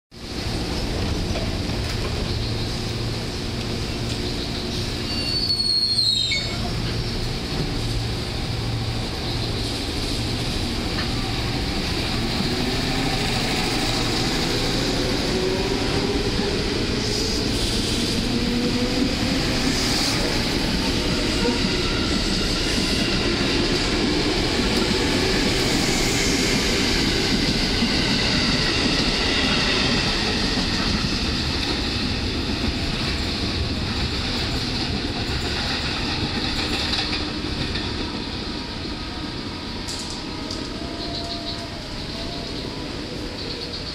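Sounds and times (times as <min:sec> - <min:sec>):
train wheels rumbling on rail: 0:00.1 - 0:43.9.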